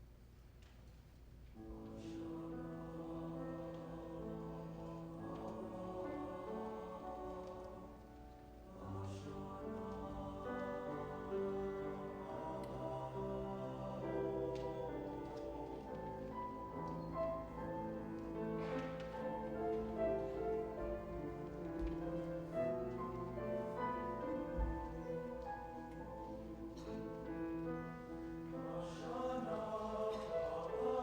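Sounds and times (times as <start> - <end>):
choir singing held chords: 1.6 - 31.0.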